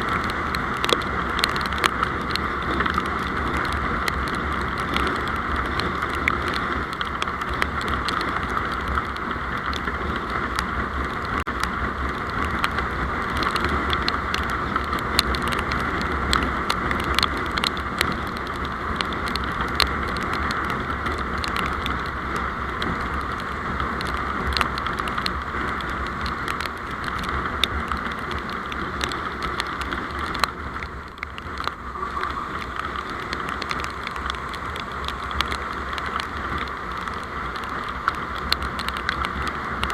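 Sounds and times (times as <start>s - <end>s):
vehicle road noise: 0.0s - 39.9s.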